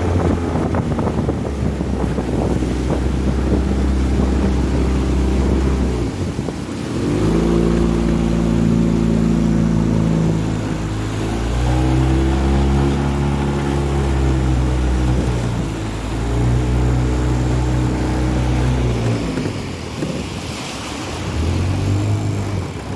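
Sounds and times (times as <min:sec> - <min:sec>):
outboard motor running: 0:00.0 - 0:22.9.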